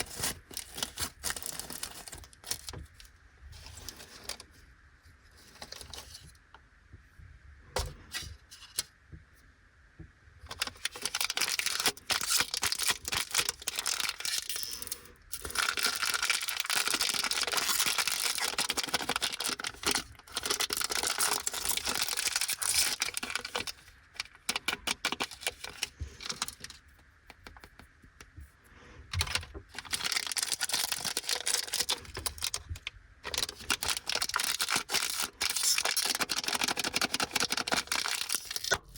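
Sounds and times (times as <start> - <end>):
plastic wrapper crinkling and tearing: 0.0 - 4.5, 10.5 - 27.8, 29.1 - 38.9.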